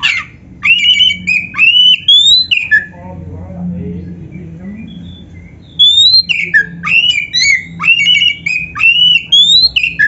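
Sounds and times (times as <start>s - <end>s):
bird singing whistled phrases: 0.0s - 3.0s, 4.3s - 10.0s.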